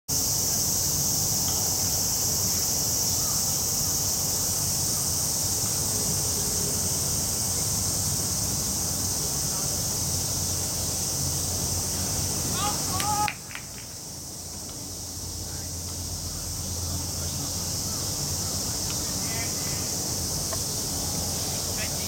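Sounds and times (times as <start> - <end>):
cicadas buzzing: 0.1 - 22.0.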